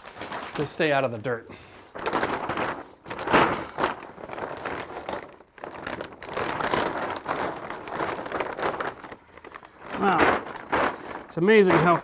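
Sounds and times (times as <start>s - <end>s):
plastic sheeting crinkling: 0.0s - 12.0s.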